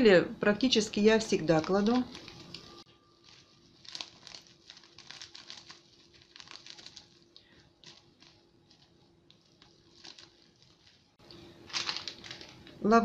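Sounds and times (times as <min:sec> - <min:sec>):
plastic packet crinkling: 0:01.2 - 0:12.8.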